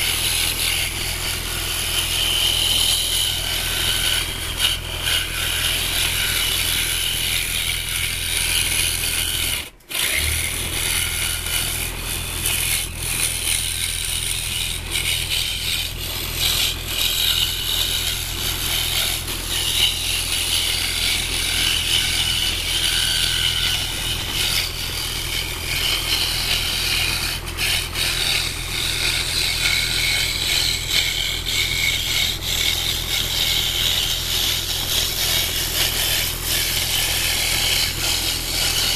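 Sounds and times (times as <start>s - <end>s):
saw blade chattering: 0.0s - 38.9s
scroll saw motor hum: 0.0s - 38.9s.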